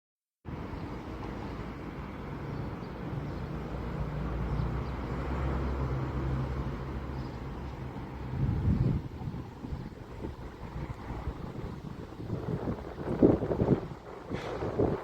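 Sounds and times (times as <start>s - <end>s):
locomotive rumbling wash: 0.5s - 15.0s.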